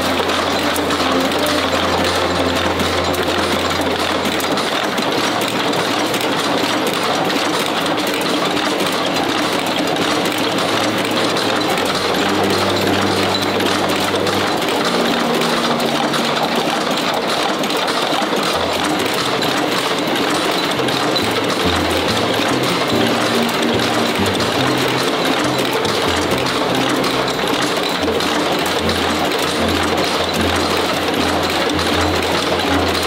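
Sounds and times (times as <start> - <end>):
screw-making machine clattering: 0.0 - 33.0.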